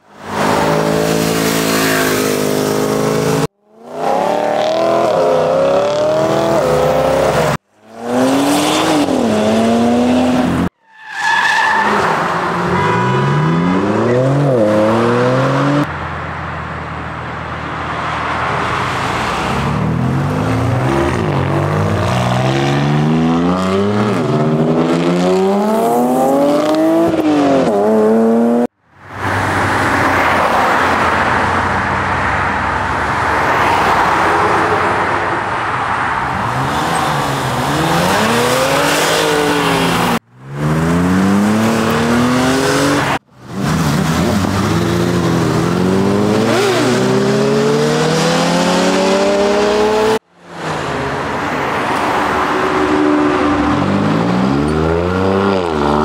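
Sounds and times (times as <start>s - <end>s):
car engines accelerating: 0.1s - 10.7s, 11.6s - 16.0s, 17.6s - 28.7s, 29.3s - 56.0s.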